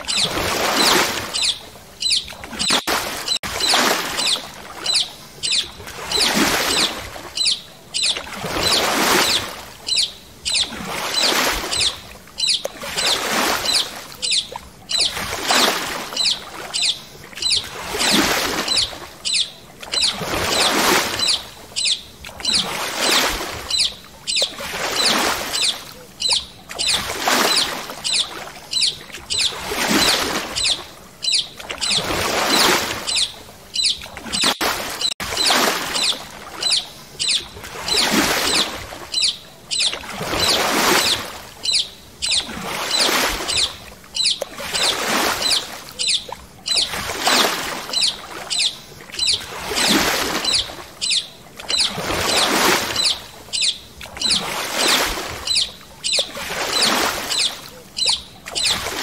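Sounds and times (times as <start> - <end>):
paddle strokes swishing water: 0.0 - 59.0.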